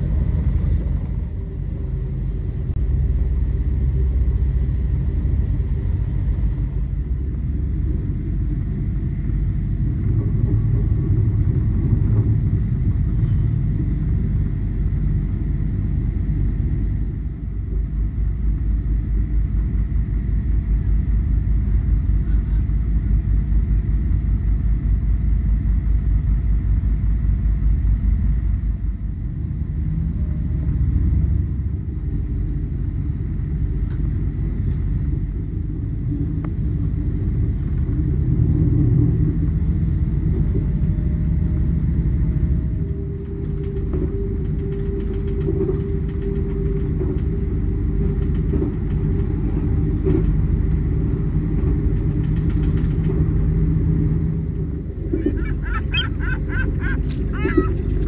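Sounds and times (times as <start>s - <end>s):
motor vehicle rumble: 0.0s - 58.0s.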